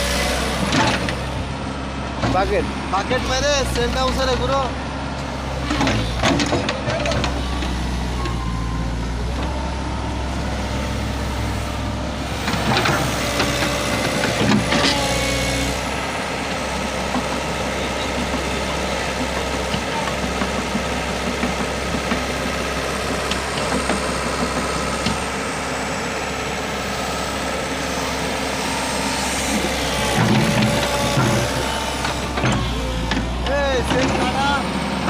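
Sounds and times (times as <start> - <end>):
excavator engine running: 0.0 - 35.0.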